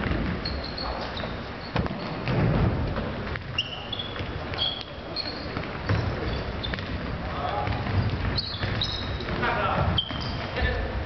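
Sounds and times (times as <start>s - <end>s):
shoes squeaking on floor: 0.0s - 11.0s.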